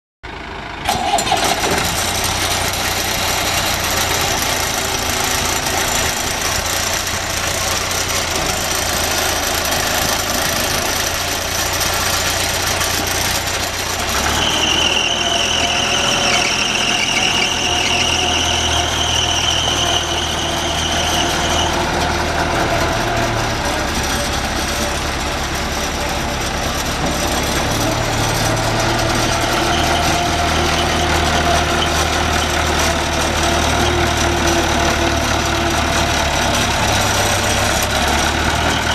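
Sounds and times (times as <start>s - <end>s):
diesel engine running: 0.2s - 38.9s.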